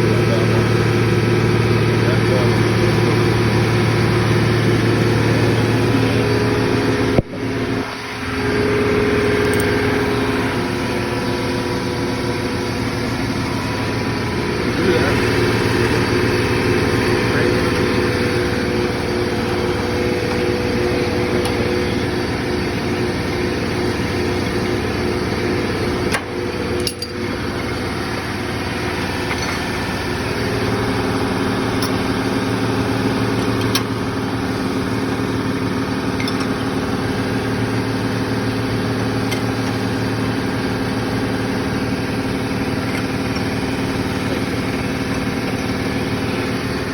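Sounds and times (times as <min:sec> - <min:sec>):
refrigeration compressor humming: 0:00.0 - 0:46.9.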